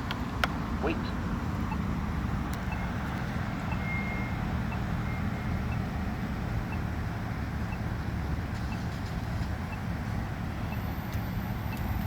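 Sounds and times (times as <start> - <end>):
road traffic rumble: 0.0 - 12.0
pedestrian signal locator ticks: 1.6 - 12.0.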